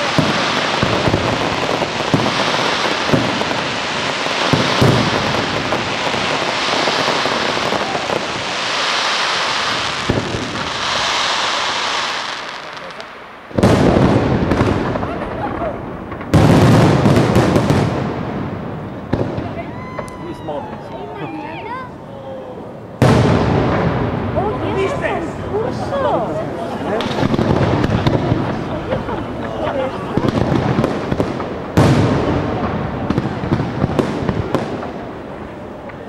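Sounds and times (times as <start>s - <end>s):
heavy fireworks bangs: 0.0s - 21.0s, 22.9s - 36.0s
fireworks crackling pops: 0.0s - 21.5s, 23.0s - 25.8s, 26.6s - 36.0s.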